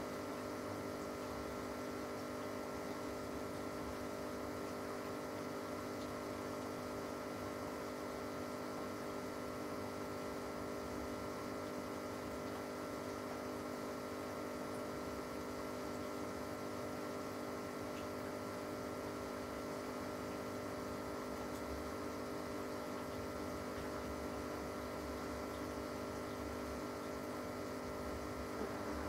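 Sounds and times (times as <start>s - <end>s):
aquarium equipment humming: 0.0s - 29.0s.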